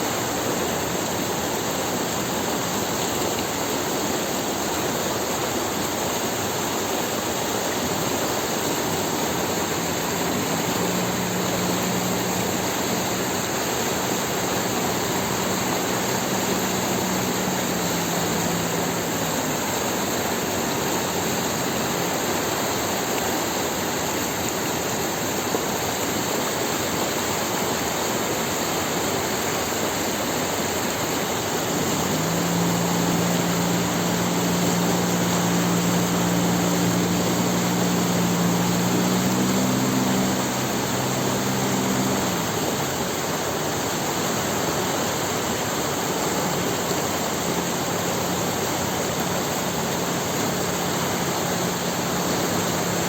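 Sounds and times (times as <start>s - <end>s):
outboard motor hum: 0.0s - 53.0s
water rushing: 0.0s - 53.0s.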